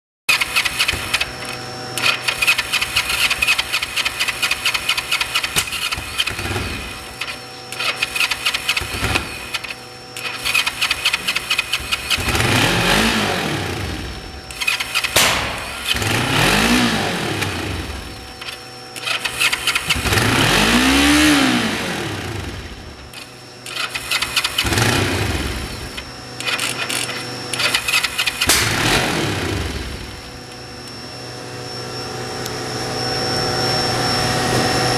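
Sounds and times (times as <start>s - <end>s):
motorcycle engine revving: 0.3s - 30.4s.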